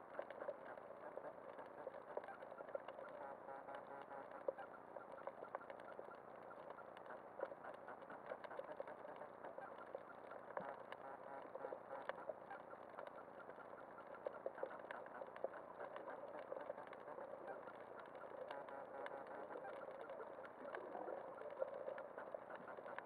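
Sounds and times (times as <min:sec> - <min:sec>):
underwater crackle of clicks: 0:00.0 - 0:23.0.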